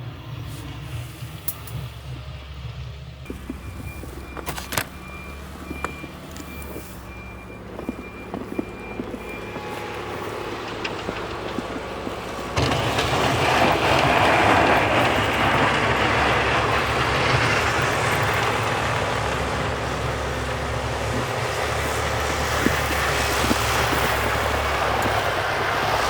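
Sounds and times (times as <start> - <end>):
truck engine rumble: 0.0 - 26.0
truck reversing alarm beeps: 0.6 - 26.0.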